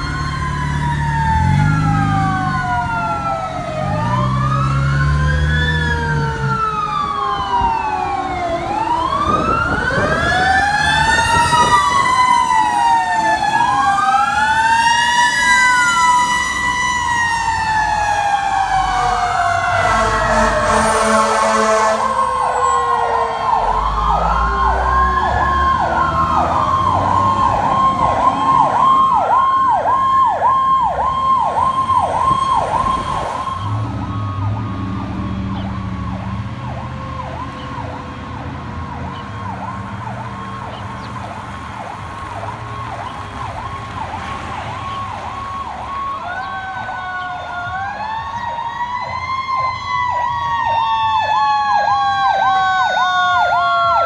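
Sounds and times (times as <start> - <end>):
electronic siren yelping: 0.0 - 38.0, 38.8 - 54.0
siren wailing up and down: 0.0 - 54.0.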